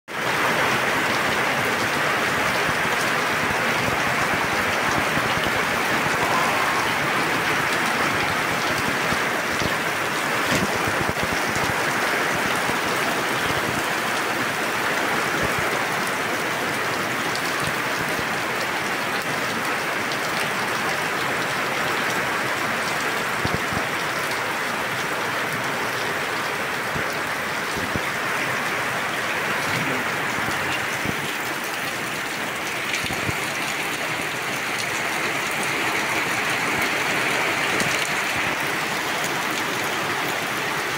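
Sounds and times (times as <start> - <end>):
heavy rain falling: 0.1 - 40.9
water pouring and splashing: 0.2 - 16.0, 17.0 - 40.9.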